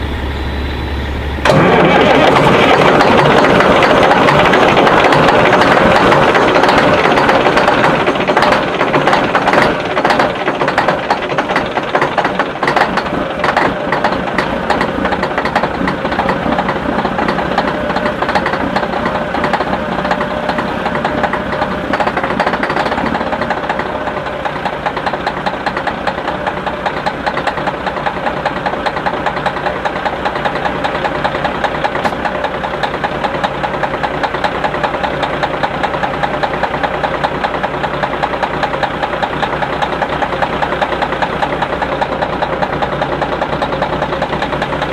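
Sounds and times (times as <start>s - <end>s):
diesel truck engine knocking: 0.0s - 44.9s.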